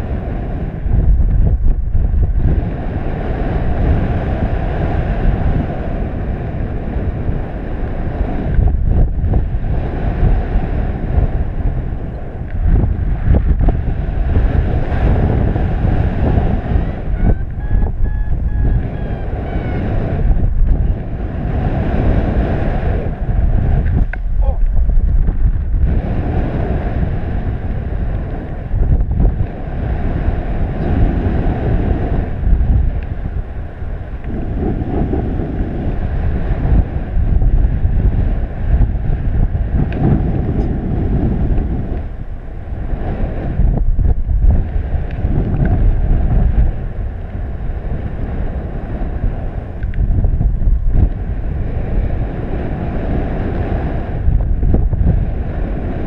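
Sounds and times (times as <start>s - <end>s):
wind rumbling over microphone: 0.0s - 56.0s.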